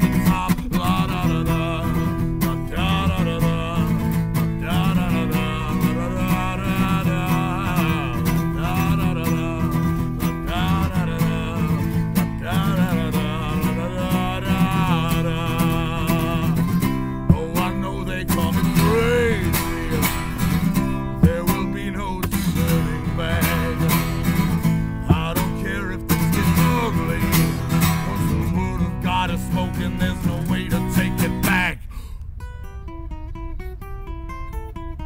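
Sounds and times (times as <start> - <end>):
man singing: 0.0 - 31.9
acoustic guitar strumming: 0.0 - 35.0.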